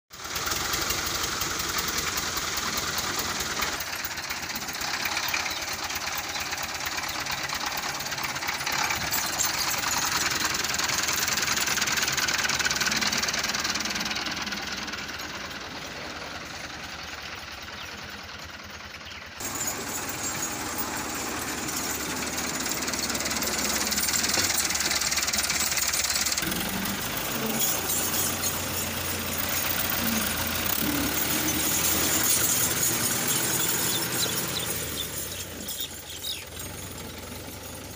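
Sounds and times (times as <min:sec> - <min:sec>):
tractor diesel engine clattering: 0:00.1 - 0:37.9.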